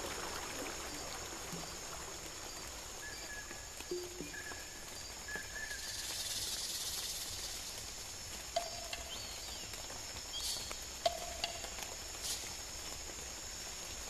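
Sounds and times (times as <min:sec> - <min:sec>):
insects trilling: 0:00.9 - 0:14.0.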